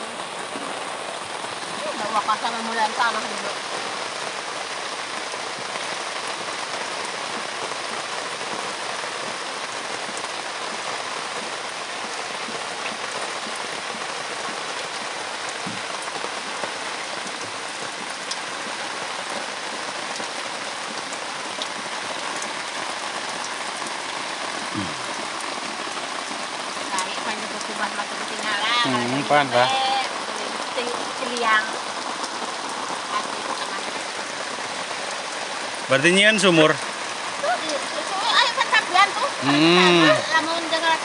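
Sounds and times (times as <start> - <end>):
raindrops ticking: 0.0 - 41.0
steady rain hiss: 0.0 - 41.0.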